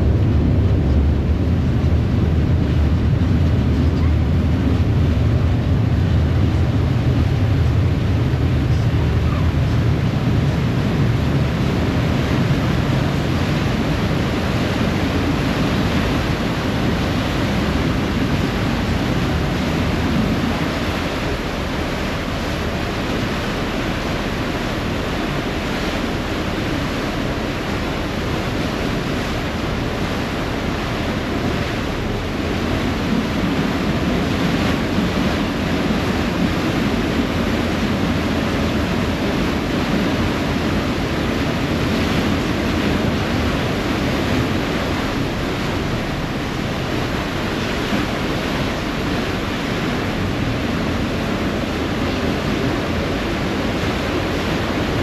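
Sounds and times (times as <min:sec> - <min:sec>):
propeller wake churning water: 0:00.0 - 0:55.0
wind buffeting microphone: 0:00.0 - 0:55.0.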